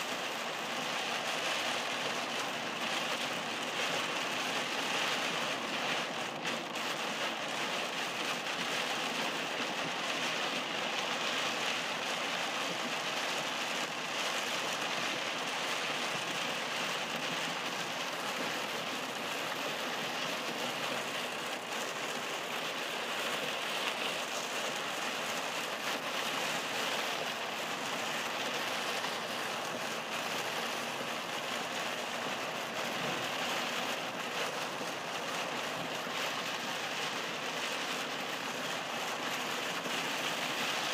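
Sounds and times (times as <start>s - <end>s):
heavy rain on car windshield: 0.0s - 40.9s.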